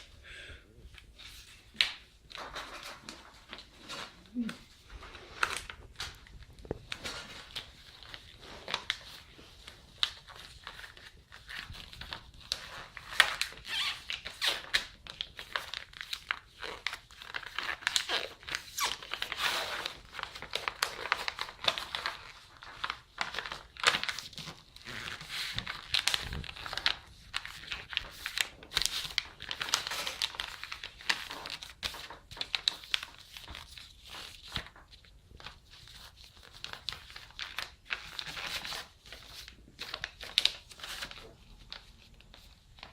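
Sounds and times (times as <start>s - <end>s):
crinkling and crumpling: 0.8s - 42.9s.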